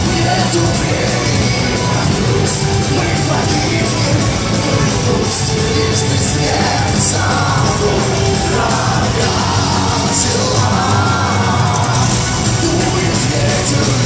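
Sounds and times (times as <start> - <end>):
electric guitars: 0.0 - 14.0
heavy drums: 0.0 - 14.0.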